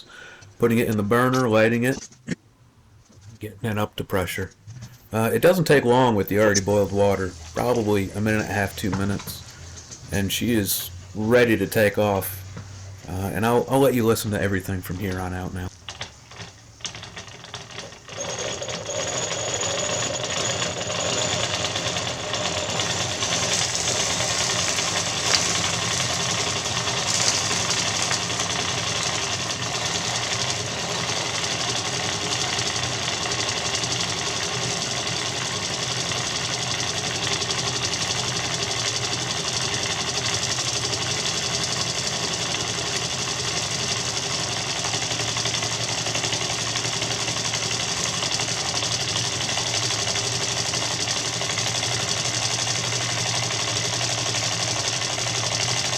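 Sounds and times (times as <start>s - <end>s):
toy steam engine chuffing: 0.0s - 2.3s, 3.0s - 55.9s
steam hissing: 5.0s - 13.9s, 16.2s - 55.9s.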